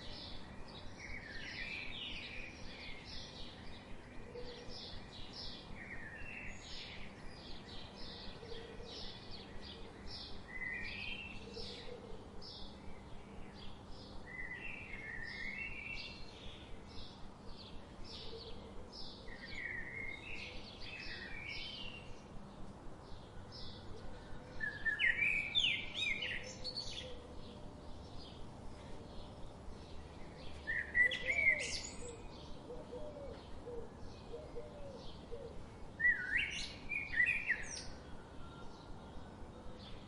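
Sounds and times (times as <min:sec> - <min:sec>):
songbirds chirping and singing: 0:00.0 - 0:40.0.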